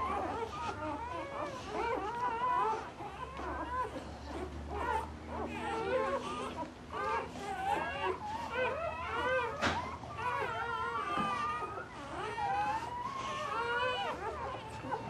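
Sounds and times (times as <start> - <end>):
puppies whimpering and squealing: 0.0 - 15.0.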